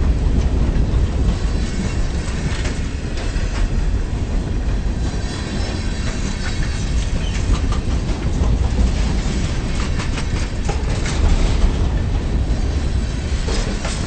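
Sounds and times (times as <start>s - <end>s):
freight train rumbling past: 0.0s - 14.0s
wheels clacking over rail joints: 0.0s - 14.0s.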